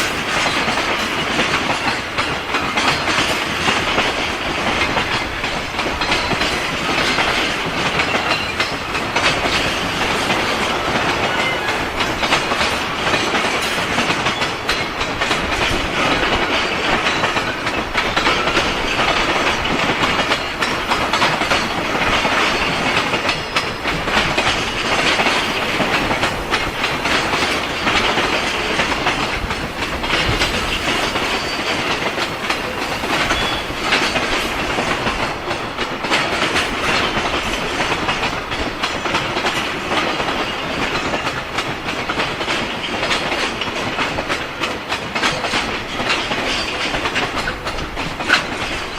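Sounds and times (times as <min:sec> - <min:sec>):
train wheels clattering on rails: 0:00.0 - 0:48.9.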